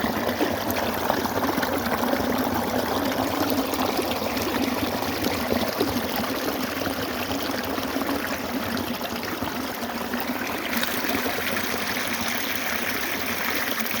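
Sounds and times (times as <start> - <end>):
stream water flowing and trickling: 0.0 - 14.0.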